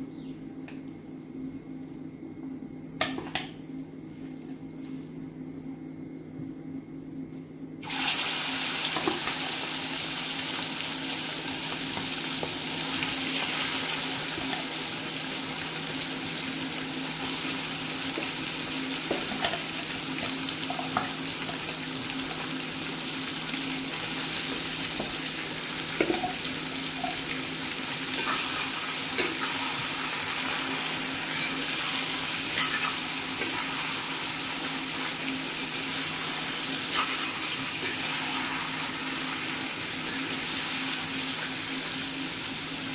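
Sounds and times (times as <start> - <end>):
meat sizzling in hot oil: 7.8 - 42.9.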